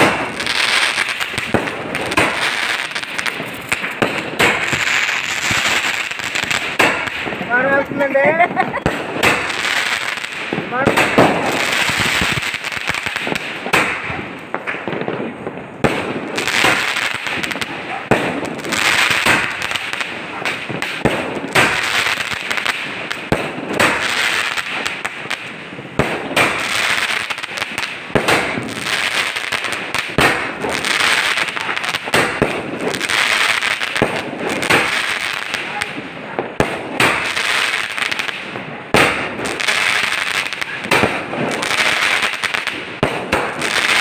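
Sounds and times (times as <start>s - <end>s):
firework bangs: 0.0s - 44.0s
firework crackling: 0.0s - 44.0s.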